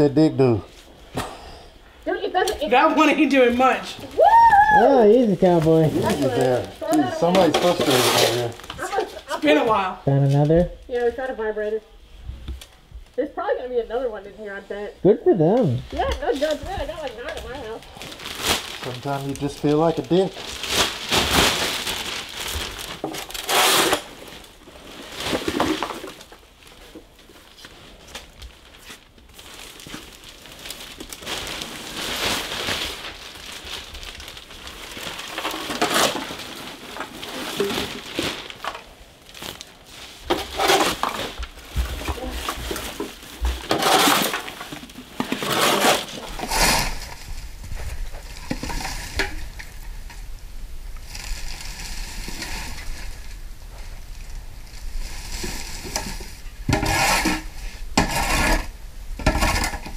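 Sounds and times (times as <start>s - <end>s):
trash rustling and crinkling: 4.8s - 13.2s, 15.5s - 59.9s.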